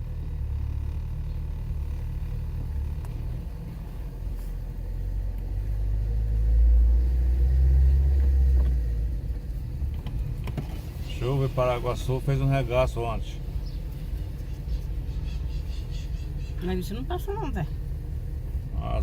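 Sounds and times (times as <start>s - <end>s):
car driving: 0.0s - 19.0s.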